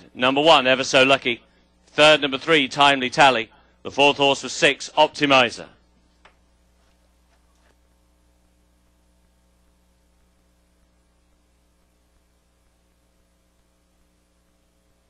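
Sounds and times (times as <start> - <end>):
faint steady hum: 0.0 - 15.0
low hiss: 0.0 - 15.0.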